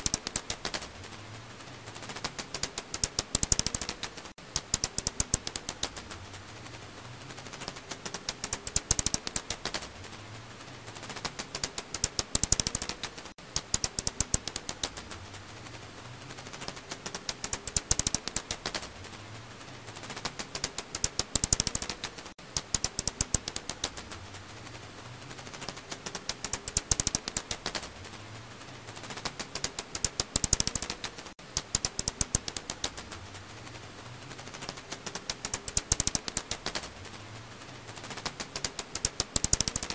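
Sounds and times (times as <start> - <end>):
faint hiss: 0.0 - 39.9.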